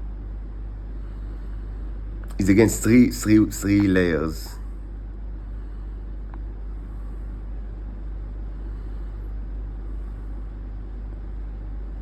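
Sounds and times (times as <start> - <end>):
constant low hum: 0.0 - 12.0
low background rumble: 0.0 - 12.0.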